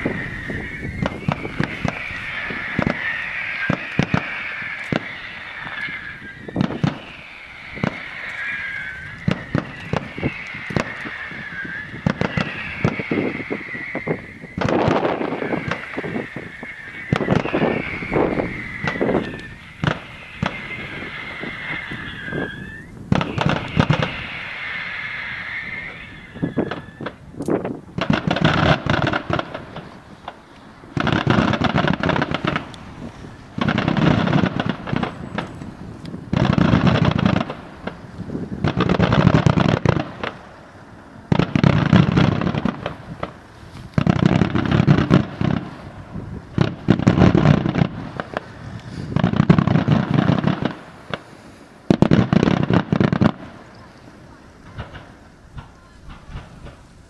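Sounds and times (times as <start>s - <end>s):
fireworks rattling bangs: 0.0s - 57.0s.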